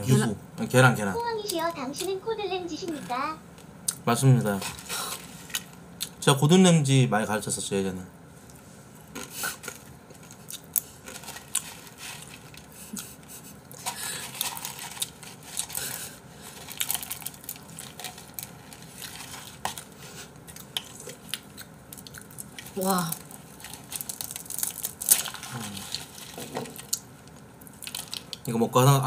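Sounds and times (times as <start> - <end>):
clicks and crinkles of eating: 2.8 - 6.2, 8.4 - 28.6.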